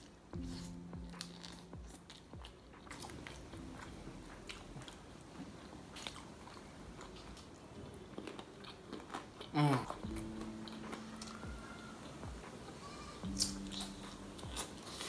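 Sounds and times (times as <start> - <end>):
person chewing chicken: 0.4 - 15.0.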